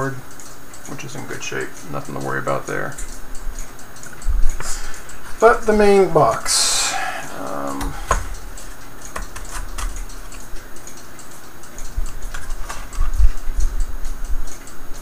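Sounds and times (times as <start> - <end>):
wooden clock parts clicking: 0.0 - 15.0.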